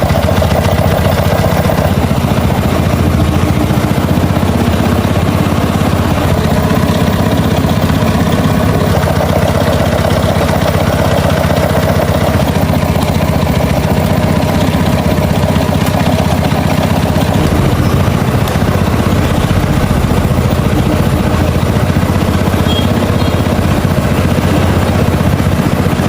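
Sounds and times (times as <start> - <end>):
small motorcycle engine idling: 0.0 - 26.0.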